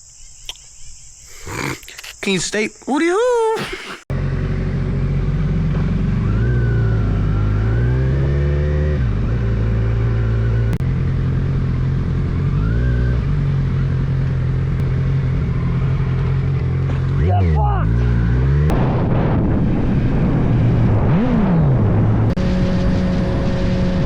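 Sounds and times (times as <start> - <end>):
motorcycle engine accelerating: 4.1 - 24.0.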